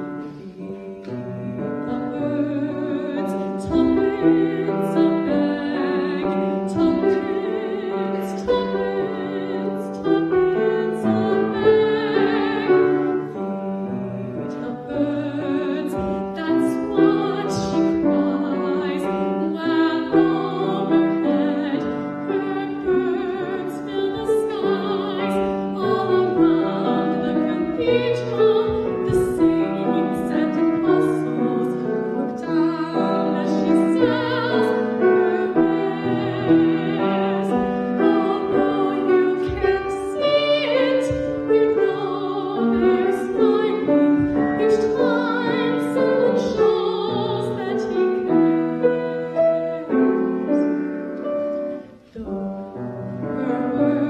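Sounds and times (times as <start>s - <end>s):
piano accompaniment: 0.0s - 54.0s
girl singing: 0.4s - 13.2s, 14.4s - 50.0s.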